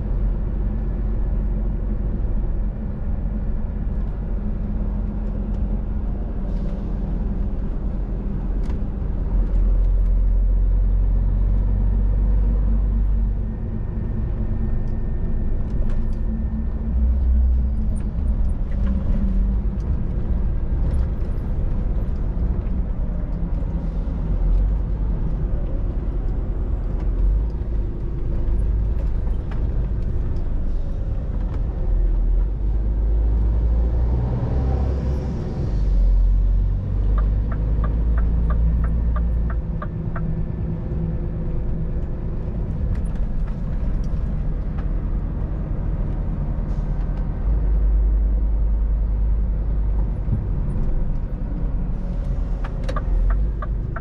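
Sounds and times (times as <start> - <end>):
truck diesel engine rumble: 0.0 - 54.0.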